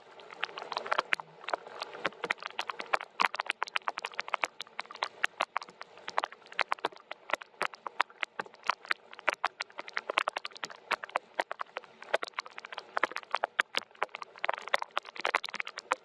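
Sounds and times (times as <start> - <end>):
raindrops tapping on hard surface: 0.4 - 16.0.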